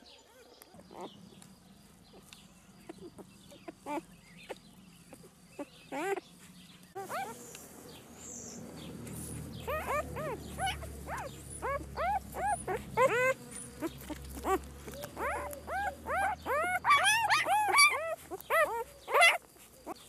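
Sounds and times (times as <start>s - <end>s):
newborn puppies whining: 0.0s - 1.2s, 2.1s - 7.4s, 9.4s - 20.0s.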